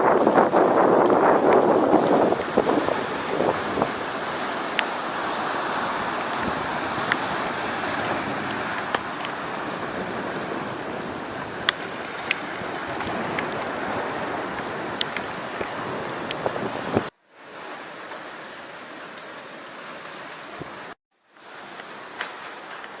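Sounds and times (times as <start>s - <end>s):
rough sea churning: 0.0s - 23.0s
wind: 0.0s - 23.0s.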